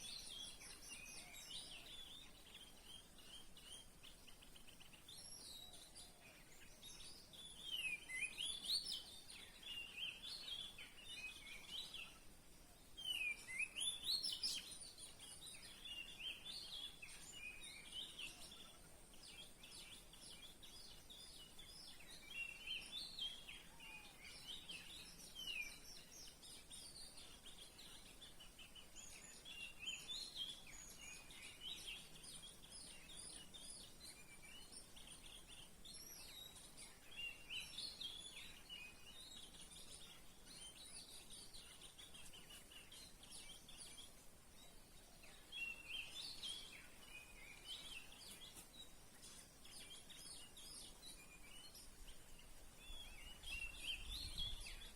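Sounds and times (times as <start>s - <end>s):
songbird chirping and whistling: 0.0s - 54.9s.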